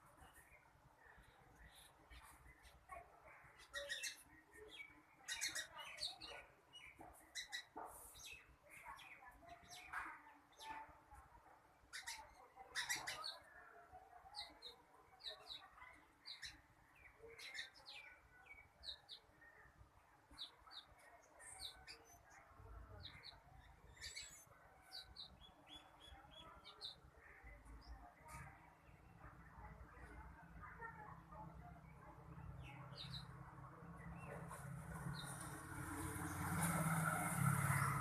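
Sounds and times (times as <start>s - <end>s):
birds chirping faintly: 0.0s - 38.0s.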